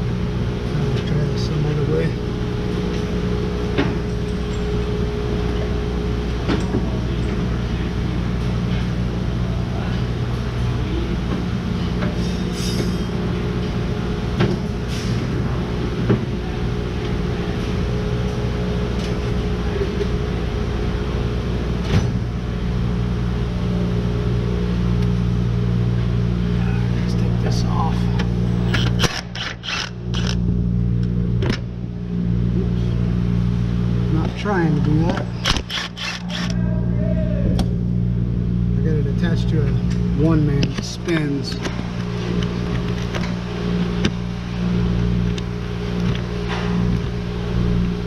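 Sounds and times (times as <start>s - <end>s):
machine hum: 0.0s - 48.0s.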